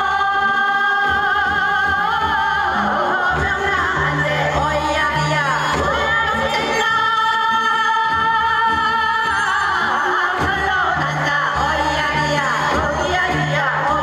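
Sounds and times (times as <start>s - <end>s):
instrumental accompaniment: 0.0s - 14.0s
women singing with ornamented pitch: 0.0s - 14.0s.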